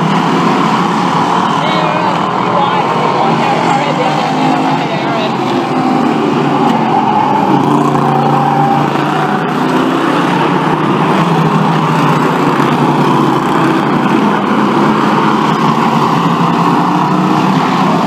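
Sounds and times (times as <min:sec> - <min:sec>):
racing car engines: 0:00.0 - 0:18.0.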